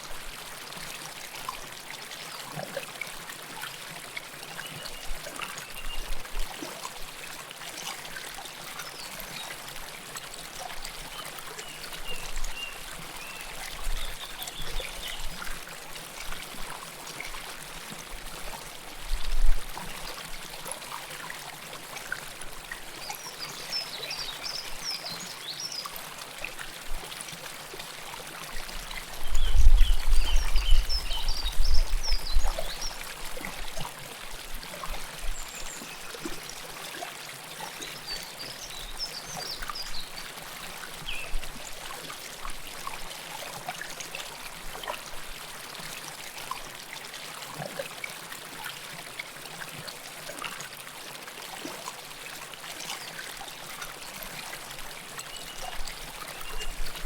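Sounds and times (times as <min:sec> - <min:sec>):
river water rushing and trickling: 0:00.0 - 0:57.0.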